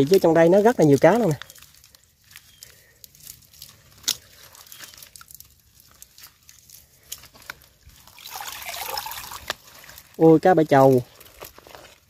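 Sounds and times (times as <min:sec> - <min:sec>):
wet leaves crackling and rustling: 0:00.0 - 0:12.0.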